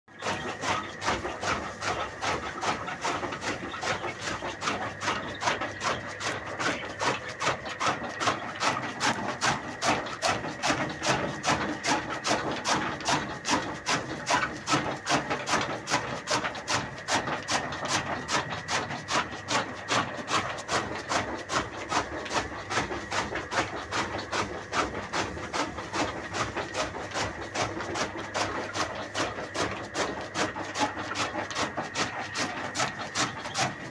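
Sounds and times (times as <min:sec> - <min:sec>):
chaff cutter chopping fodder: 0:00.1 - 0:33.9
machine whine: 0:00.1 - 0:33.9.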